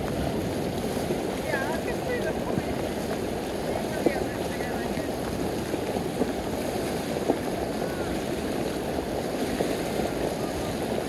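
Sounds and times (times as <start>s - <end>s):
water rushing through a breach: 0.0s - 11.0s
water splashes: 0.0s - 11.0s.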